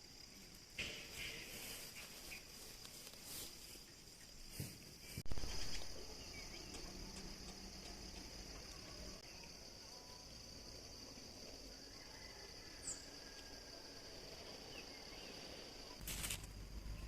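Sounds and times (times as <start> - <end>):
faint chorus of crickets: 0.0 - 17.0.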